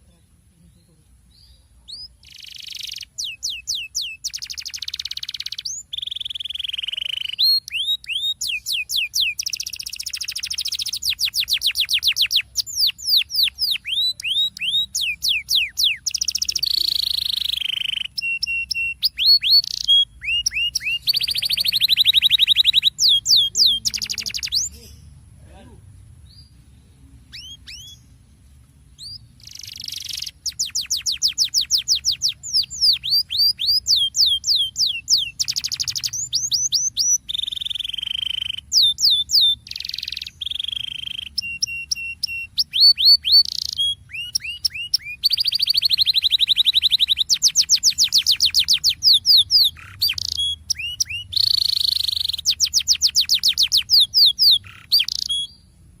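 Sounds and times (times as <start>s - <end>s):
canary singing: 1.3s - 56.0s.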